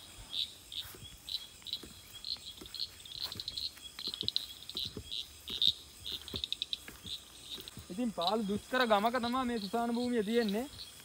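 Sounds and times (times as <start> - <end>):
night insects chirping: 0.0 - 11.0
soft footfalls in grass: 0.6 - 10.0.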